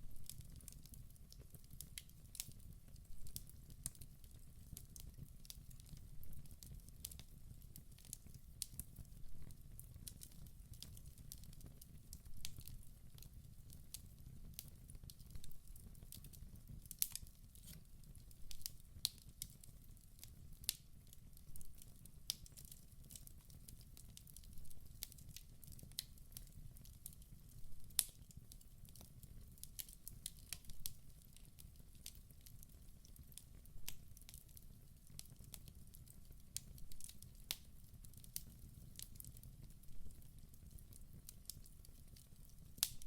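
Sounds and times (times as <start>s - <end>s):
fire crackles and pops: 0.0s - 43.0s.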